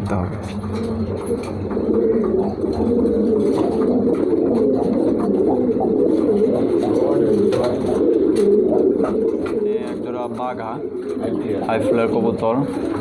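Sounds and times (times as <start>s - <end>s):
pigeons cooing chorus: 0.1s - 13.0s.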